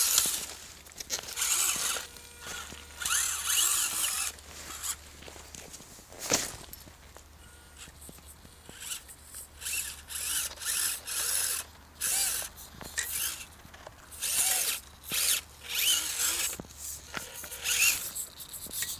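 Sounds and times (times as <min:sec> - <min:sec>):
small electric motor whining: 0:00.0 - 0:05.0, 0:07.4 - 0:18.9.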